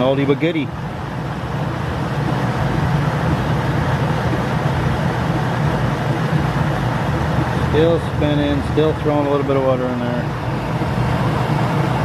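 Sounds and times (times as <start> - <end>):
washer spinning with motor hum: 0.0 - 12.0
water spraying: 0.0 - 12.0.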